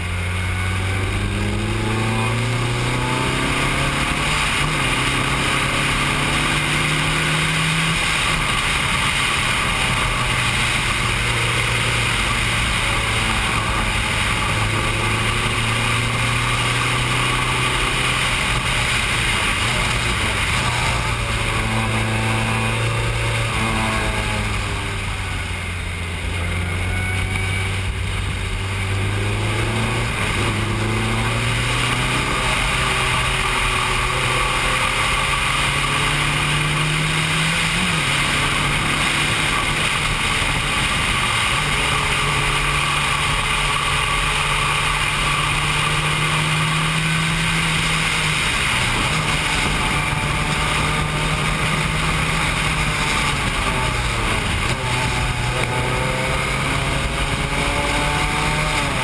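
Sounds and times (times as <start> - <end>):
race car engine revving through gears: 0.0 - 59.0
wind and road rush: 0.0 - 59.0.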